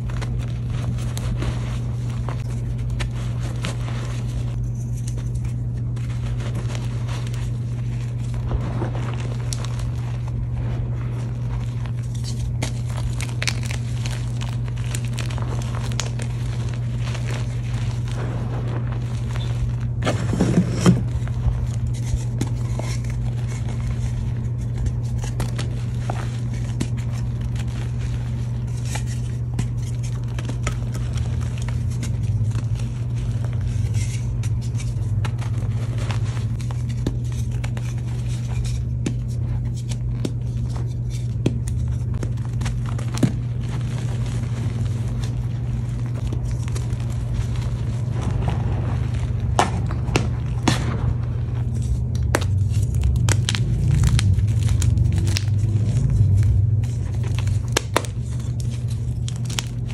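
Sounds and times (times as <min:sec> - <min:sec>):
hands crushing chalk: 0:00.0 - 0:59.9
steady low hum: 0:00.0 - 0:59.9.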